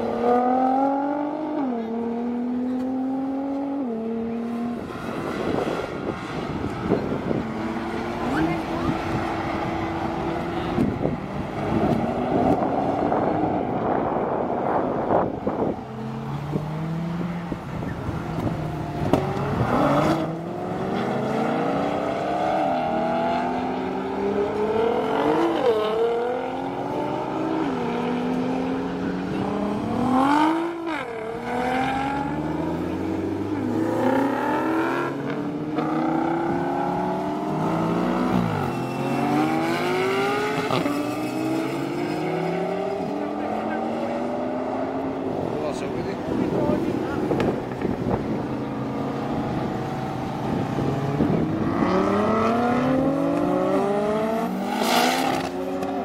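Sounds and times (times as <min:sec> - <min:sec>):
sports car engines revving: 0:00.0 - 0:56.0.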